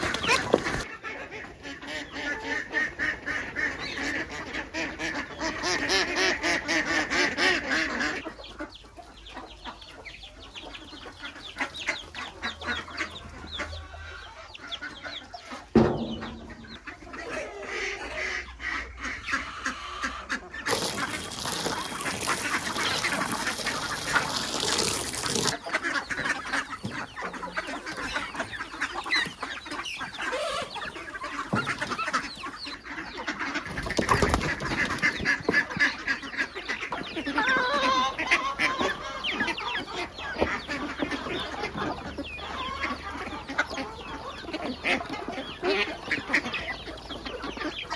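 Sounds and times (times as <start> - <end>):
chickens clucking: 0.0 - 47.9
ducks quacking: 0.0 - 47.9.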